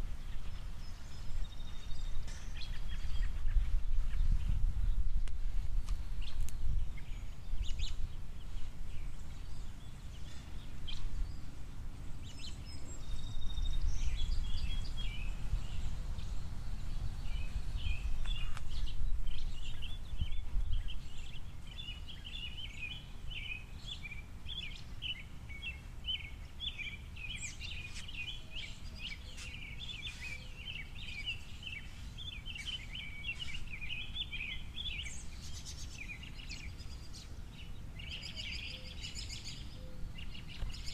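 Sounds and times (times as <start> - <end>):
small songbirds chirping: 0.0 - 40.9.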